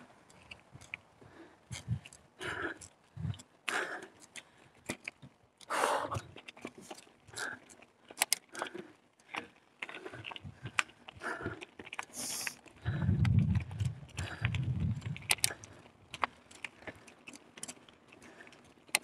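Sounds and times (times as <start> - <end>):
bike rattling over rough trail: 0.0 - 19.0
tyres crunching: 0.1 - 19.0.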